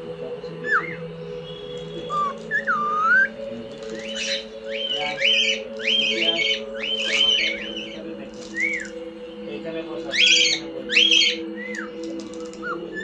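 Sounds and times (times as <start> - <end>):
cockatiels whistling: 0.6 - 9.0, 10.1 - 13.0.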